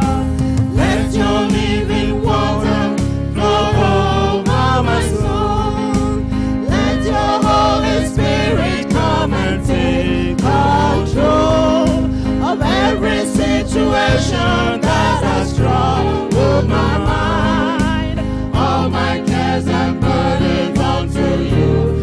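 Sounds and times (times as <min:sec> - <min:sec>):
electronic keyboard accompaniment: 0:00.0 - 0:22.0
gospel choir singing: 0:00.0 - 0:22.0.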